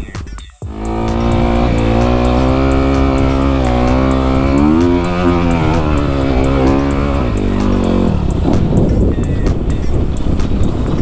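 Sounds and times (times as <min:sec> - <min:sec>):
dirt bike engine under load: 0:00.7 - 0:11.0.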